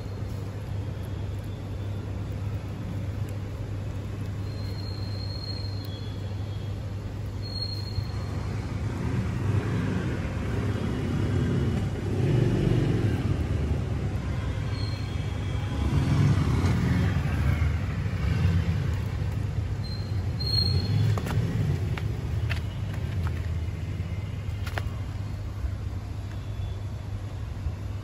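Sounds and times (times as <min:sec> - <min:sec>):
low rumble of motor traffic: 0:00.0 - 0:28.0.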